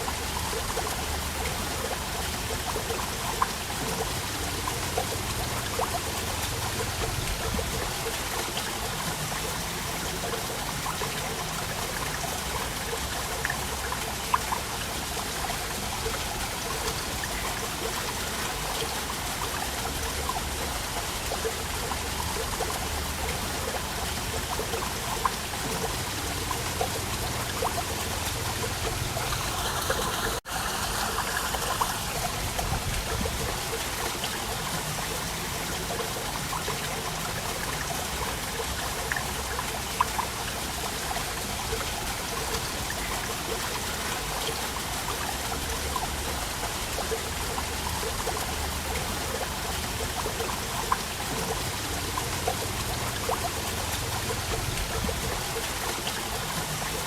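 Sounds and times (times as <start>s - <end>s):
water trickling and dripping: 0.0s - 57.0s
waterfall rushing and splashing: 0.0s - 57.0s.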